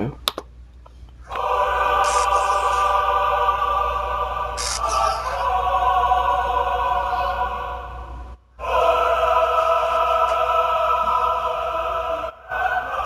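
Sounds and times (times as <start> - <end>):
dramatic choral music: 1.3 - 13.0.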